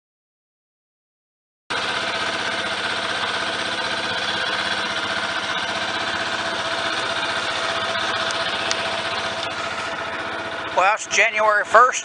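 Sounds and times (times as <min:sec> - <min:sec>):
motorcycle engine idling: 0:01.7 - 0:12.0.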